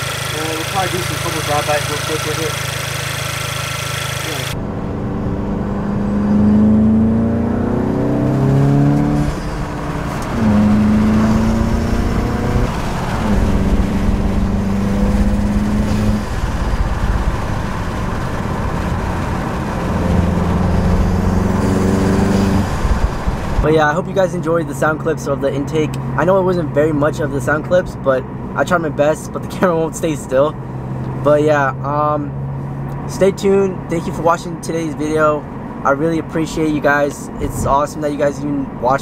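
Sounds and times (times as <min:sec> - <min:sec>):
car engine accelerating: 0:00.0 - 0:36.6.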